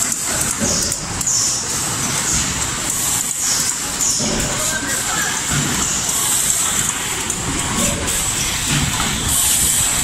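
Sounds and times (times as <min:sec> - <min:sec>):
box assembly machine running: 0:00.0 - 0:10.0.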